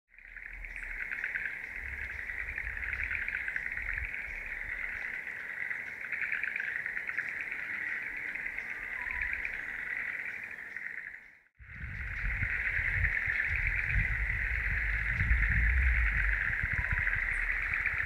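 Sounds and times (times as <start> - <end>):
insect chorus trilling: 0.1 - 18.0.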